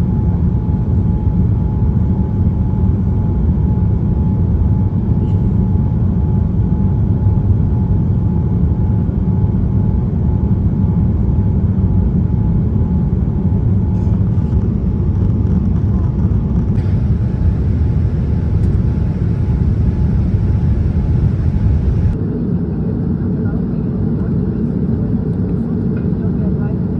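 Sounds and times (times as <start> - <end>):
airliner engine roar: 0.0 - 26.9.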